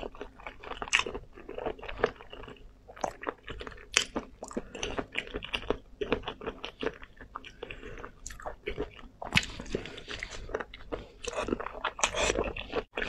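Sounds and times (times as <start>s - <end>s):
person chewing meat: 0.0s - 13.0s.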